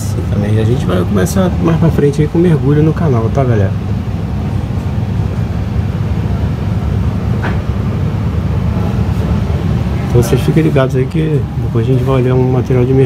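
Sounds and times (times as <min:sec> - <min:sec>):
shop background rumble: 0:00.0 - 0:13.0.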